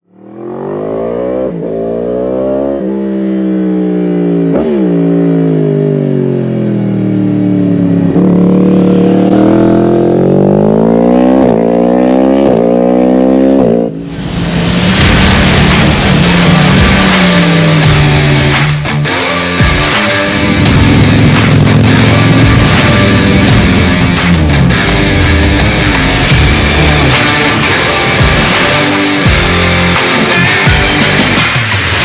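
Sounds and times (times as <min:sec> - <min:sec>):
motorcycle exhaust note: 0:00.2 - 0:14.1, 0:14.8 - 0:31.4.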